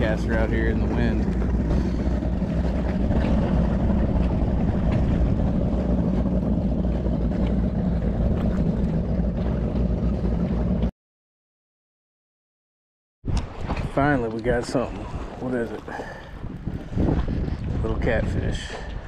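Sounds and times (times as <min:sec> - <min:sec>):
wind buffeting microphone: 0:00.0 - 0:10.9, 0:13.2 - 0:19.0.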